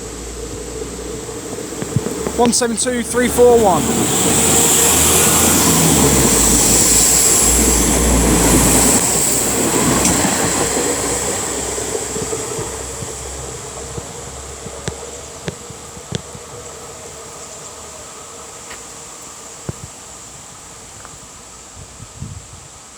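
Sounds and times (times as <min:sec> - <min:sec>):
diesel train engine rumble: 0:00.0 - 0:22.9
wheel and rail noise: 0:00.0 - 0:22.9.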